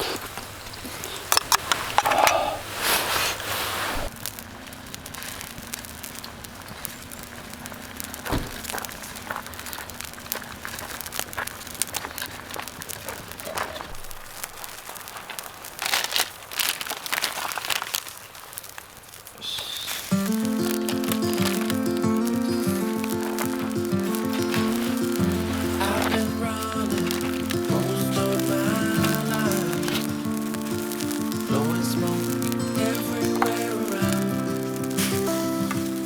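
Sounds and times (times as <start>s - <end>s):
clicks and crackles: 0.0s - 36.0s
rustling and crinkling: 0.0s - 36.0s.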